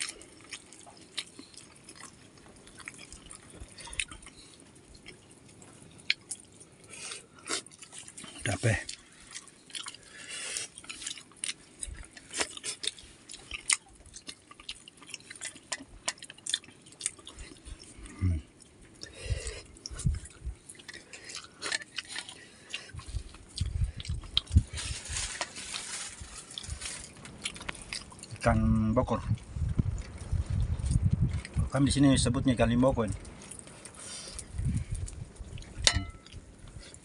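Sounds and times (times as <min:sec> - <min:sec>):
chewing and mouth smacks: 0:00.0 - 0:31.7, 0:33.0 - 0:37.0.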